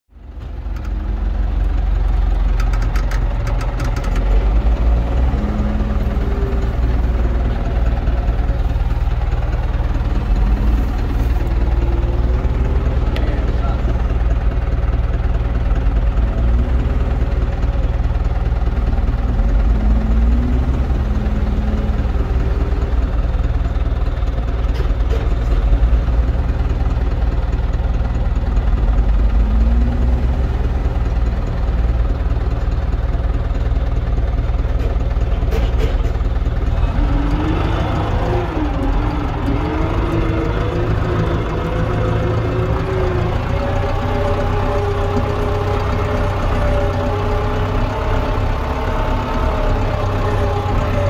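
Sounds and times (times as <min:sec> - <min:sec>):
tractor diesel engine droning: 0:00.1 - 0:51.0.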